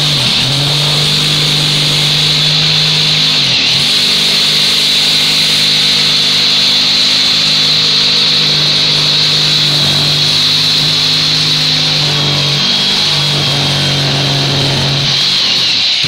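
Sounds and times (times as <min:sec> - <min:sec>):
power tool cutting wood: 0:00.0 - 0:16.0.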